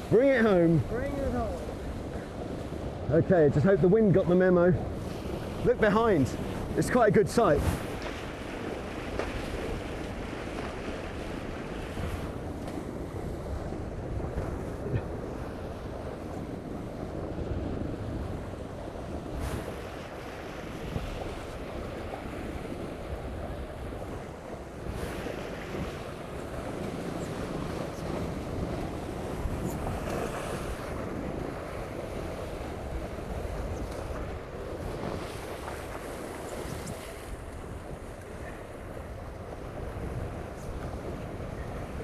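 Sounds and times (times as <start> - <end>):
water rushing past hulls: 0.0 - 42.0
wind buffeting microphone: 0.0 - 42.0.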